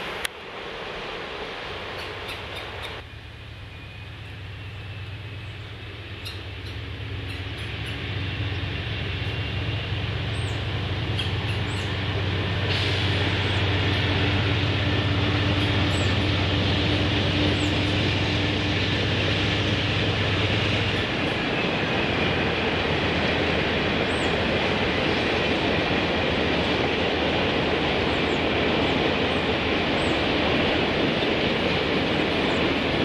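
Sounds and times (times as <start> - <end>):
diesel locomotive engine drone: 0.0 - 33.0
train running past: 0.0 - 33.0.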